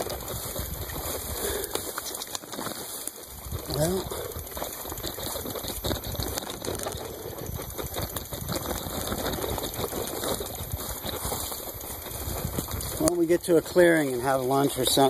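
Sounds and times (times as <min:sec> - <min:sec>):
bicycle rattling over rough ground: 0:00.0 - 0:15.0.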